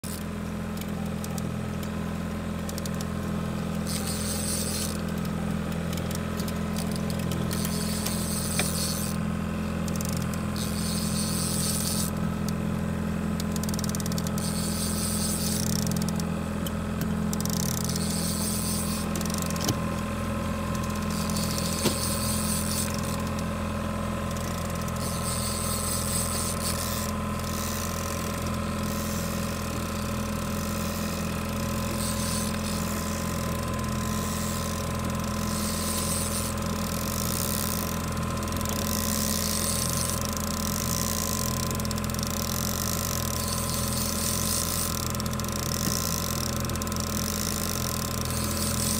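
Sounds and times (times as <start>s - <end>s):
outboard motor idling: 0.0s - 48.9s.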